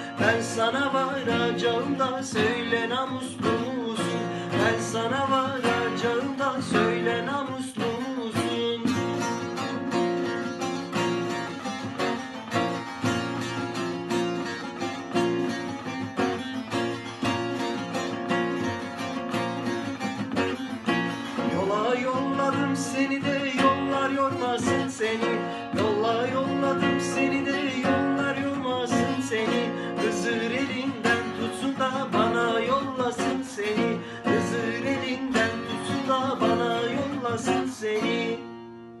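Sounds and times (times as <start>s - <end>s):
strummed folk music: 0.0s - 39.0s.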